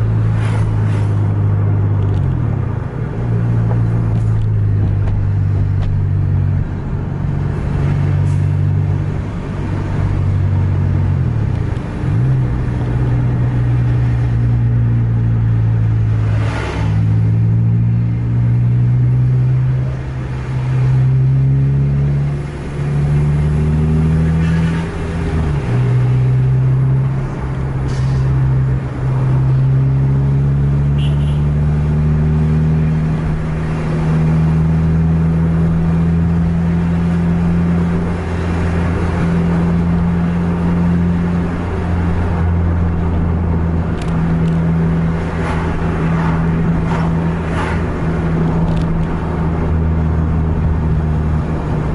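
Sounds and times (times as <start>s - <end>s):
vehicle engine running hard: 0.0s - 51.9s.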